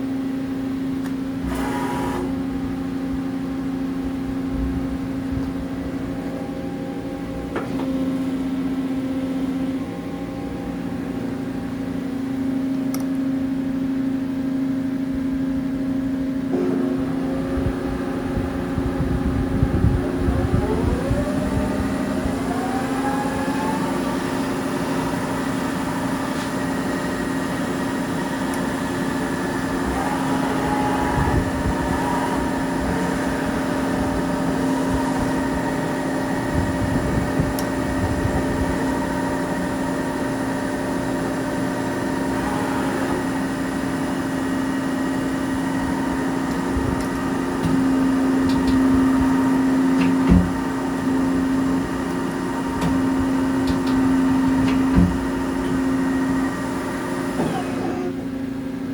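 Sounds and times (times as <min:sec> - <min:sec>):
lathe machine whine: 0:00.0 - 0:58.9.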